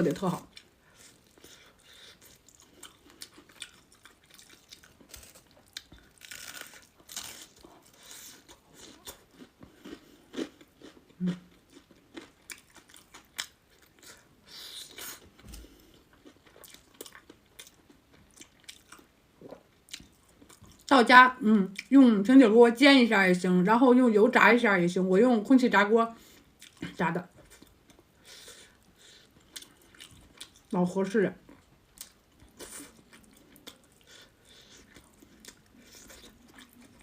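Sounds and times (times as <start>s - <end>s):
person chewing crisp fish: 0.4s - 20.9s, 26.4s - 26.8s, 27.4s - 30.7s, 31.5s - 37.0s.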